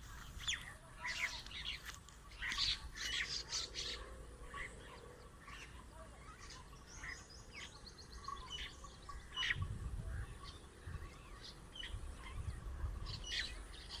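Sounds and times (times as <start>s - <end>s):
flock of birds chirping: 0.0s - 14.0s.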